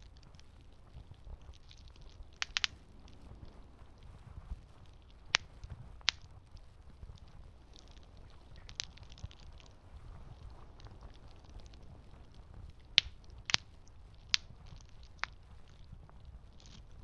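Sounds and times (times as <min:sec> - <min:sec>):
burning wood crackling and popping: 0:00.0 - 0:17.0
campfire rumble: 0:00.0 - 0:17.0.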